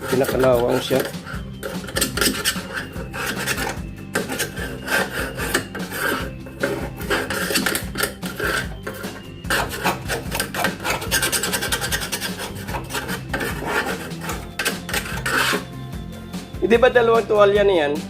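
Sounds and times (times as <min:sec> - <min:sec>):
abrasive scrubbing metal: 0:00.0 - 0:15.8.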